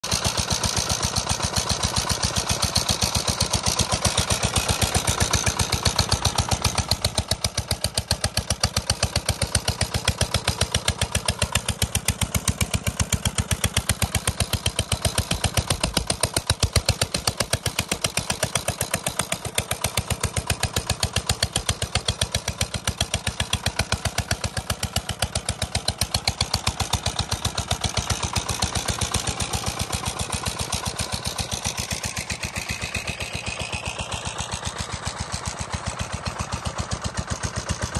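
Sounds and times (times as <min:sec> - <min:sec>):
diesel engine knocking steadily: 0:00.0 - 0:37.9.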